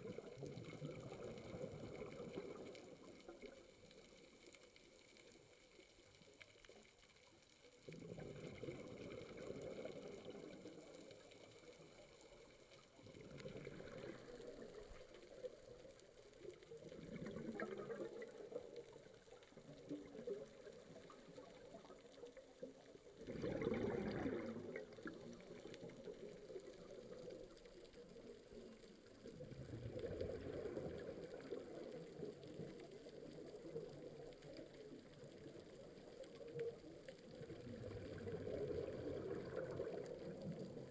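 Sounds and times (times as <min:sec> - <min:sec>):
underwater bubbles gurgling: 0:00.0 - 0:40.9.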